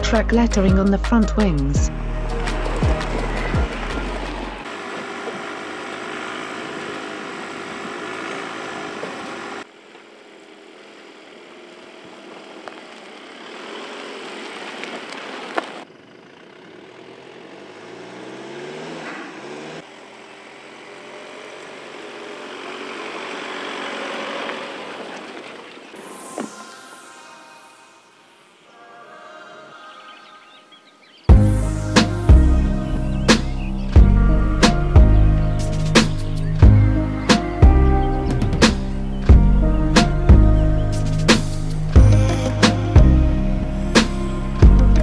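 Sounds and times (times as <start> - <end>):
car engine at low speed: 0.0 - 26.6, 31.3 - 45.0.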